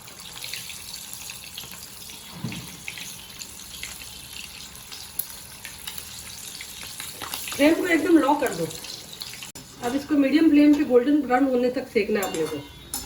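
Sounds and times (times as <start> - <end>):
batter sizzling in hot oil: 0.0 - 11.4.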